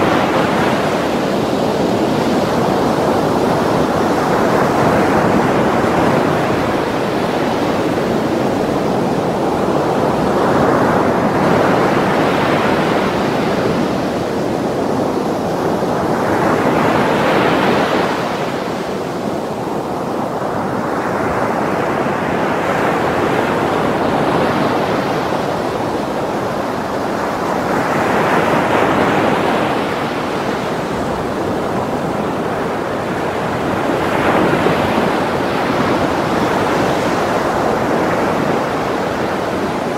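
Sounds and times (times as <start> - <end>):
ocean waves breaking over rocks: 0.0 - 39.9.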